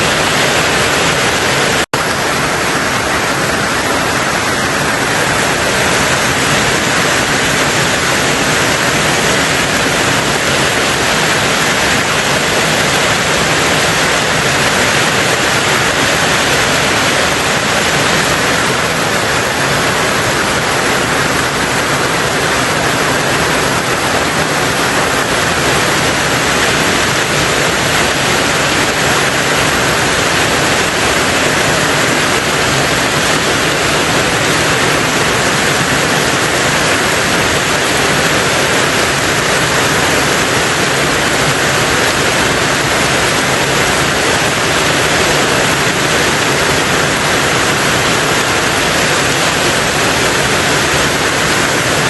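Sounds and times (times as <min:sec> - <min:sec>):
heavy rain on a tin roof: 0:00.0 - 0:52.0.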